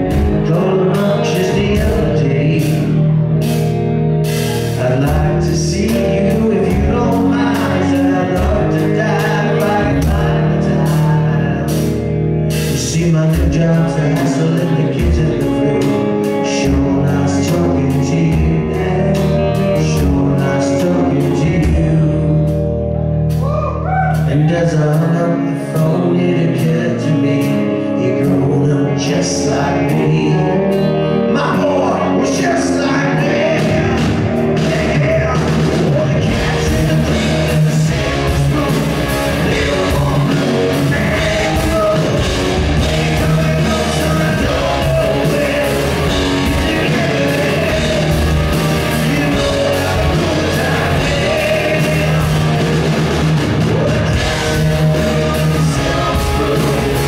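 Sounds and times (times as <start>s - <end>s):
man singing: 0.0s - 57.0s
rock band playing: 0.0s - 57.0s.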